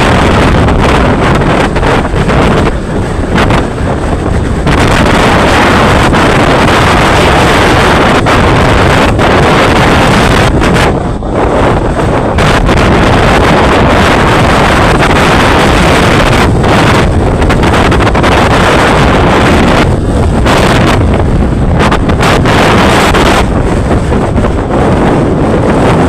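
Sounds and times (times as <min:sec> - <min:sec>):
sea waves: 0:00.0 - 0:26.0
strong wind buffeting microphone: 0:00.0 - 0:26.0.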